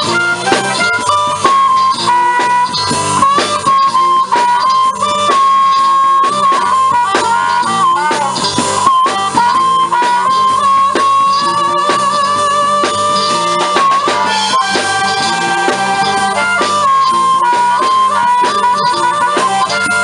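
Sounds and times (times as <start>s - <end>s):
guitar: 0.0s - 20.0s
harmonica solo: 0.0s - 20.0s
steady drum beat: 0.0s - 20.0s.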